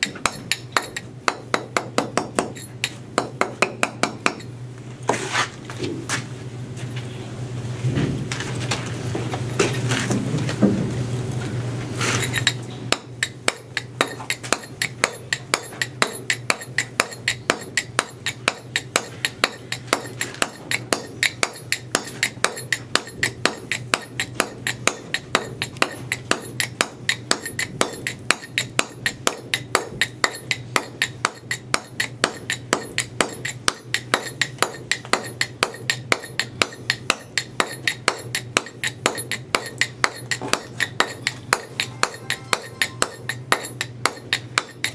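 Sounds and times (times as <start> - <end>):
mallet tapping chisel on stone: 0.0 - 4.5, 12.2 - 44.9.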